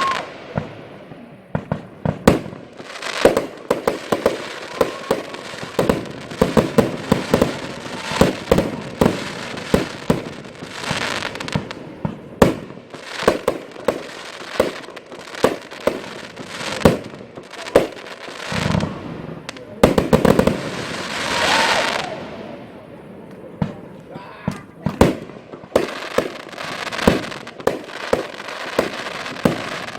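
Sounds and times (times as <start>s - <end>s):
fireworks bangs: 0.0s - 29.9s
fireworks crackle: 0.0s - 29.9s.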